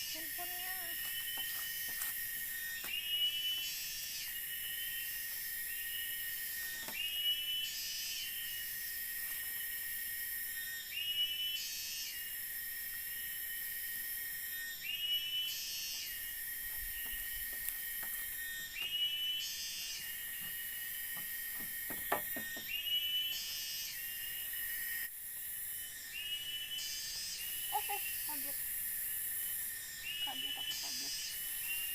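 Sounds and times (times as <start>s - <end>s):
insect drone: 0.0s - 31.9s.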